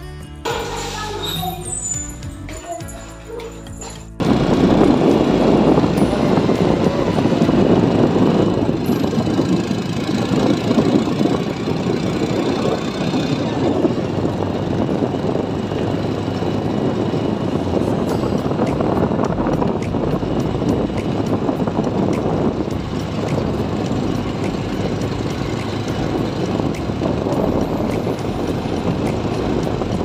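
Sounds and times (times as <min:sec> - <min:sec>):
motorcycle running: 0:03.8 - 0:30.0
wind rushing over microphone: 0:04.2 - 0:30.0.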